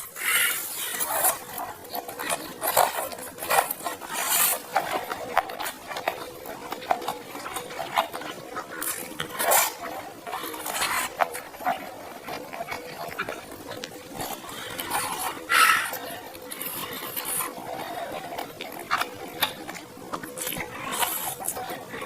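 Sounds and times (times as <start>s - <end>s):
slurping and chewing noodles: 0.0s - 22.0s.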